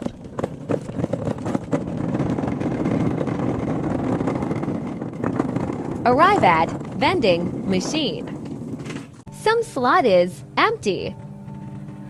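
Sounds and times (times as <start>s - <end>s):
vehicle engine and road noise: 0.0s - 9.3s, 10.4s - 12.0s.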